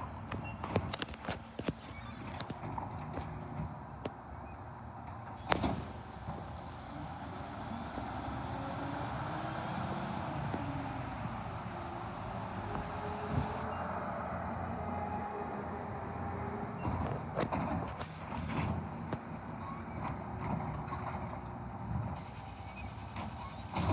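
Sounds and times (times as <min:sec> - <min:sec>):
vehicle engine and road noise: 0:00.0 - 0:23.9.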